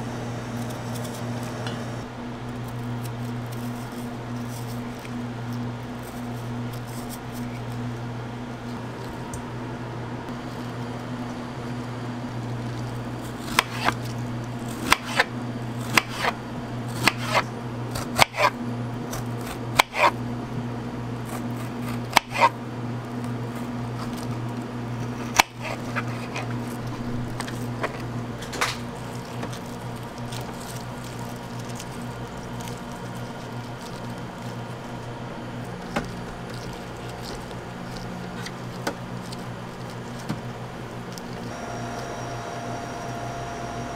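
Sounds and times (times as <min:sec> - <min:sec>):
low machine hum: 0:00.0 - 0:43.9.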